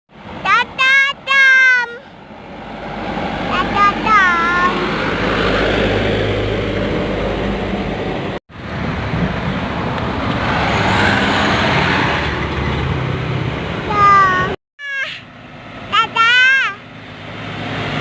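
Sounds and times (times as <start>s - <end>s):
road traffic rumbling: 0.1s - 18.0s.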